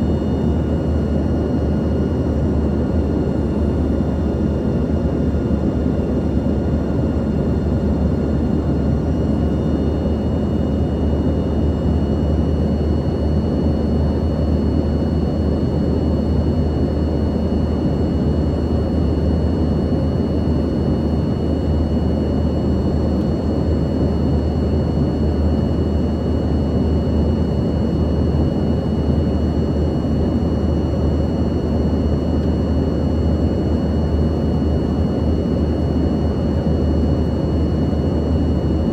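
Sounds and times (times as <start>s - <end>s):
high jet engine whine: 0.0s - 38.9s.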